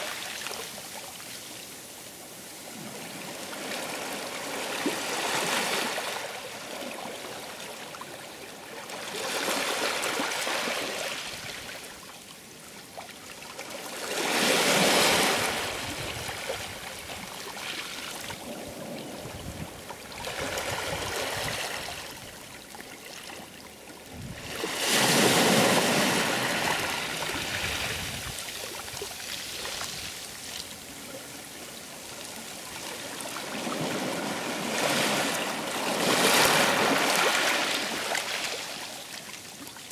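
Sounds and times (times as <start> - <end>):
sea waves surging and washing back: 0.0 - 39.9.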